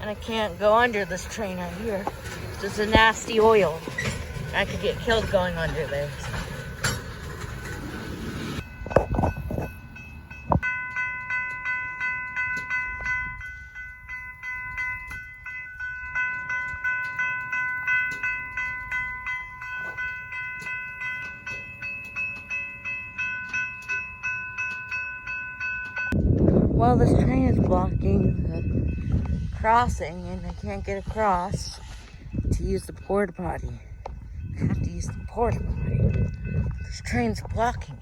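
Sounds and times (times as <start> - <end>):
crossing warning bell ringing: 0.0 - 38.0.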